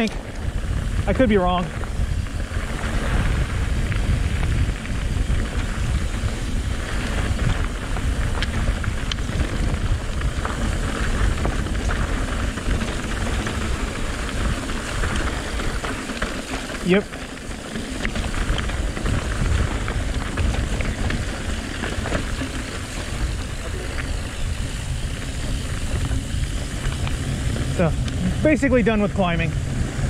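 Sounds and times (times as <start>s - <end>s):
bike tyres rolling on dirt: 0.0s - 30.0s
sharp bike clicks: 0.0s - 30.0s
wind buffeting microphone: 0.0s - 30.0s.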